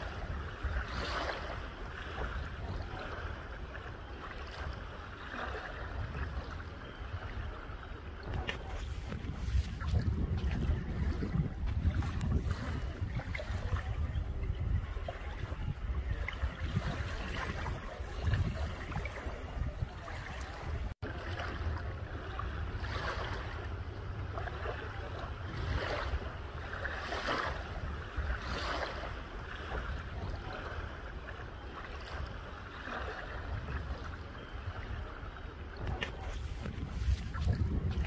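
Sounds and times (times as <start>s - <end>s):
waves lapping on shore: 0.0s - 38.0s
wind rumble on microphone: 0.0s - 38.0s.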